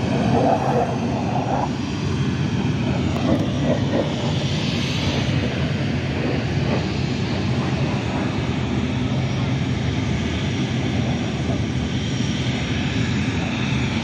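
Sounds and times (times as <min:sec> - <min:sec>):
airplane engine droning: 0:00.0 - 0:14.0.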